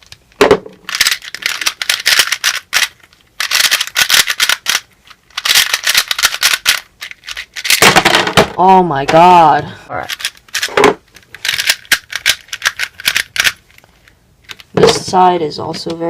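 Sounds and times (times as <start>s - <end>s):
puzzle cube clicking and rattling: 0.0s - 8.4s, 10.0s - 14.8s.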